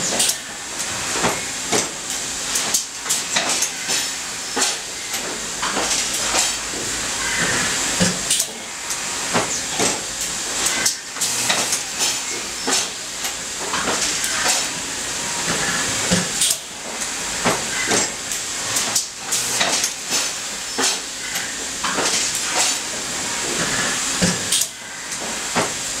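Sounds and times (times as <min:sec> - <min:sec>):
machine tooling clacks: 0:00.0 - 0:14.8, 0:15.4 - 0:25.8.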